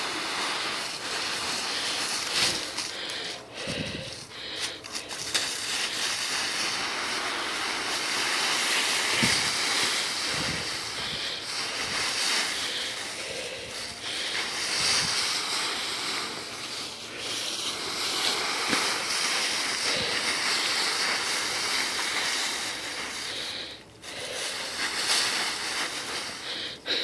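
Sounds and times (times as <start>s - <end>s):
dry leaves rustling and crunching: 0.0s - 27.0s.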